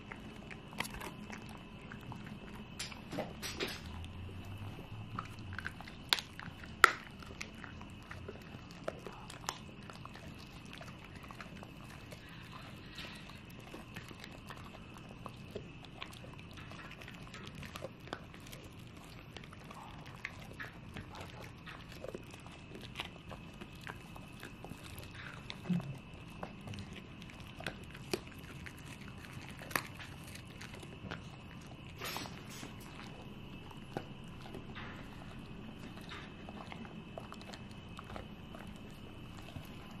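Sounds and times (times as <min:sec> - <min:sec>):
dogs crunching treats: 0:00.0 - 0:40.0.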